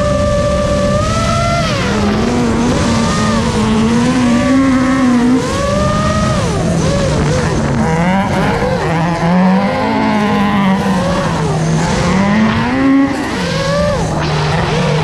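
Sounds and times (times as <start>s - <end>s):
drone motors whining: 0.0s - 15.0s
race car engines revving: 0.0s - 15.0s.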